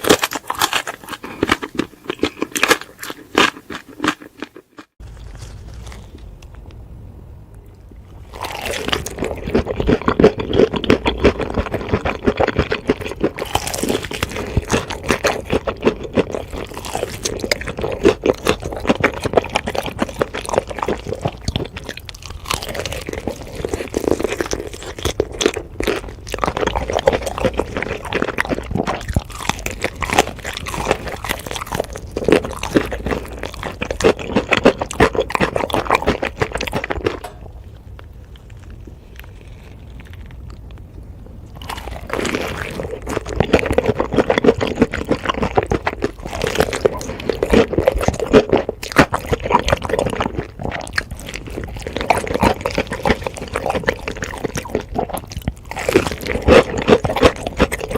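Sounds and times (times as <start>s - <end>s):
chewing crispy fried chicken: 0.0s - 6.5s, 8.2s - 57.9s.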